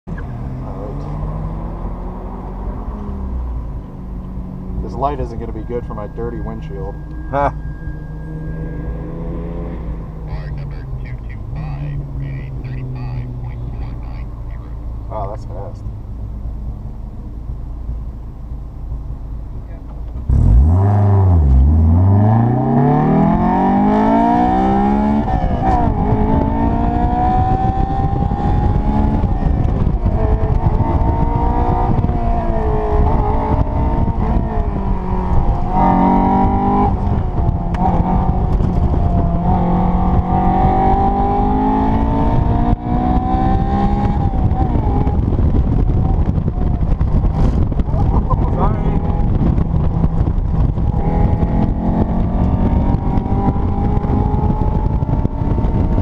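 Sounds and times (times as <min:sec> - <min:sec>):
road and wind noise: 0:00.0 - 0:56.0
car engine revving: 0:00.1 - 0:56.0.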